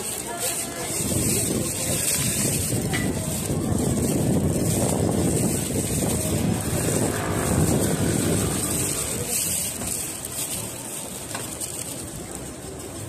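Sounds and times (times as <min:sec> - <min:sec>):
street traffic: 0:00.0 - 0:13.0
wind rumble on microphone: 0:00.0 - 0:13.0.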